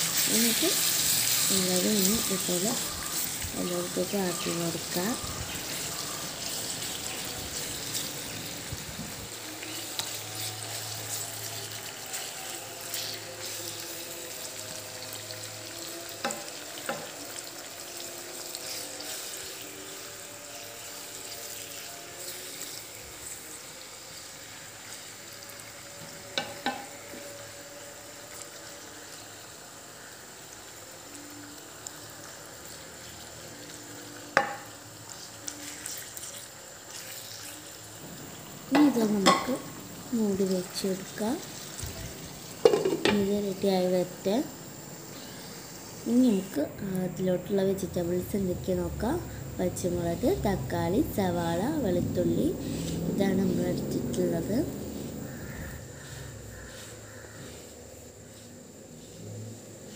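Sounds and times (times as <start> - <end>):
squid sizzling in oil: 0.0 - 59.9.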